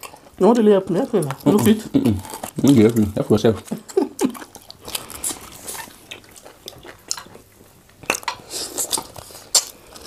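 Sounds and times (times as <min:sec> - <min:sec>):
people eating by hand: 0:00.0 - 0:10.0.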